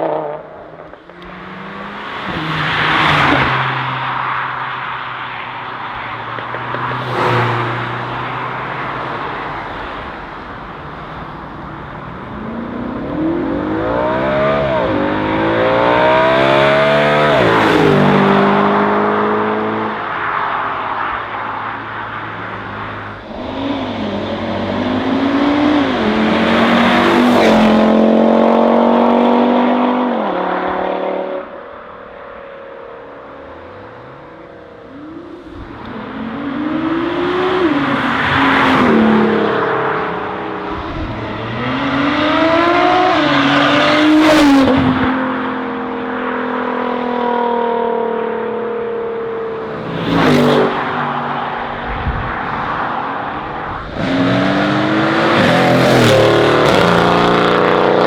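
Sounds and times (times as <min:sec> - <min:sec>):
sports cars accelerating past: 0:00.0 - 0:58.0.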